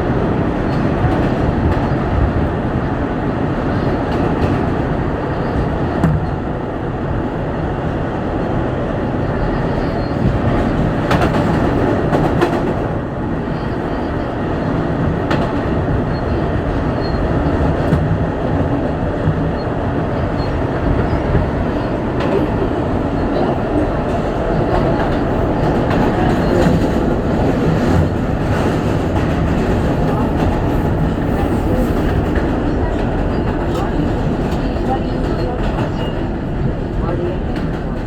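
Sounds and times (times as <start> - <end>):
subway car wheels rumbling: 0.0 - 38.0.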